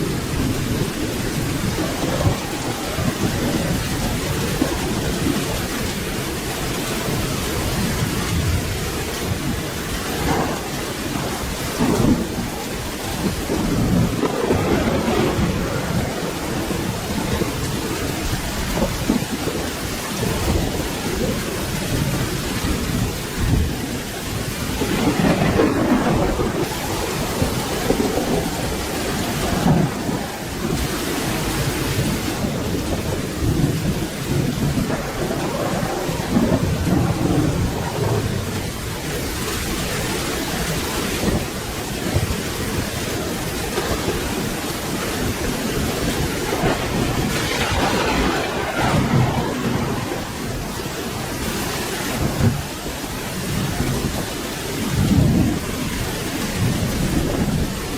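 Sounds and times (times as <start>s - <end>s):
heavy rain: 0.0s - 57.9s
rolling thunder: 0.0s - 57.9s.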